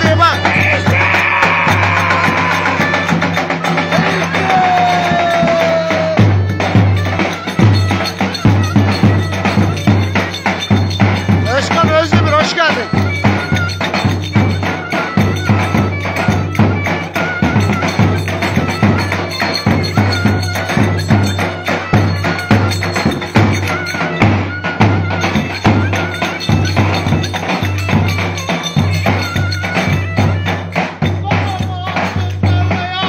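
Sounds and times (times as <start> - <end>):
wavering melody: 0.0 - 32.6
steady drumbeat: 0.0 - 33.0.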